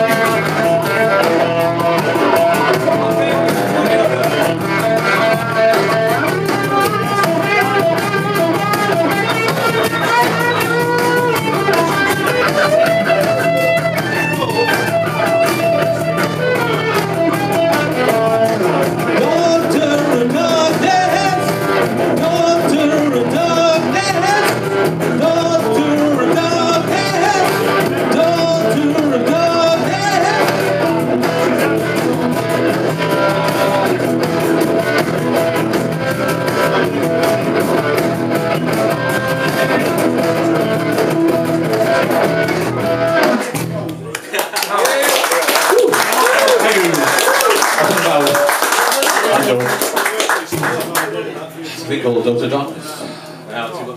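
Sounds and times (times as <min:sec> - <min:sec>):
bass: 0:00.0 - 0:44.2
electric guitars: 0:00.0 - 0:51.3.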